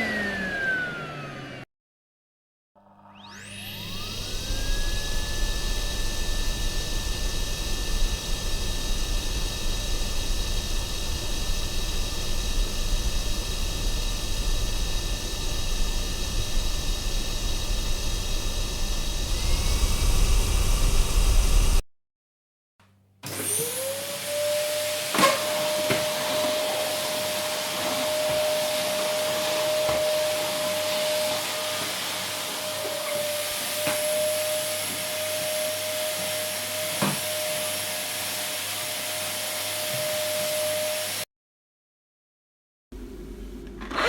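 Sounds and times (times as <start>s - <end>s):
vacuum cleaner running: 0.0s - 1.7s, 2.8s - 21.8s, 23.2s - 41.3s, 43.0s - 44.0s
vacuum motor whine: 0.0s - 1.7s, 3.0s - 21.8s, 23.2s - 41.2s.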